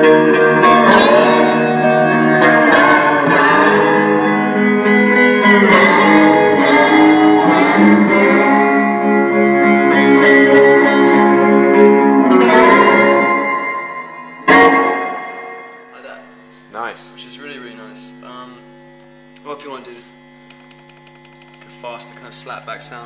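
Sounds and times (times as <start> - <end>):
clean electric guitar with delay: 0.0 - 19.4.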